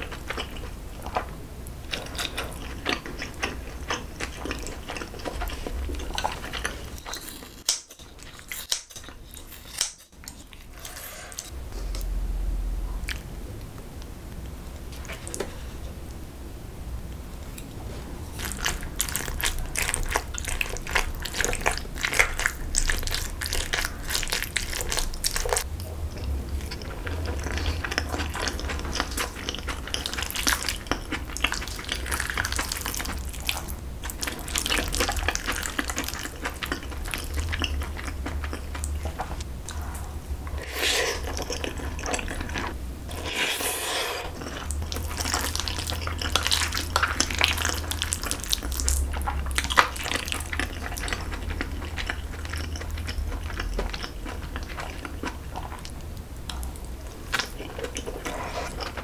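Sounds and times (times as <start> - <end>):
wet chewing and smacking: 0.0 - 10.9, 18.4 - 39.8, 40.4 - 43.6, 44.3 - 59.0.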